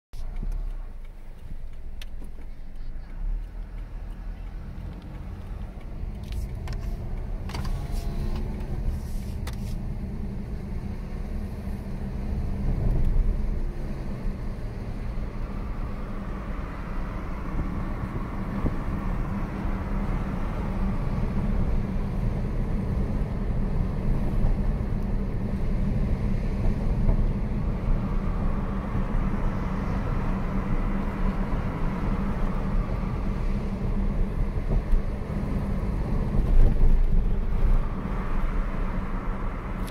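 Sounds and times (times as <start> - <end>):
car road noise rumble: 0.1 - 39.9.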